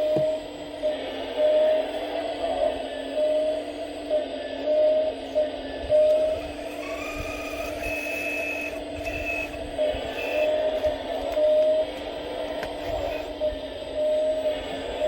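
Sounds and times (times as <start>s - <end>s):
model excavator motor whining: 0.0s - 15.0s.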